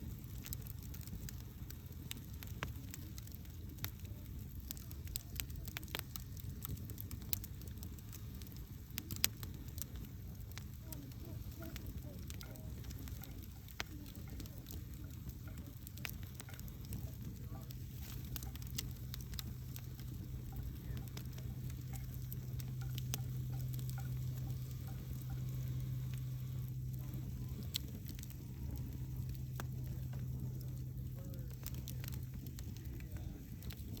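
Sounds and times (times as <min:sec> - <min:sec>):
logs crackling in fireplace: 0:00.0 - 0:34.0
low fire rumble: 0:00.0 - 0:34.0.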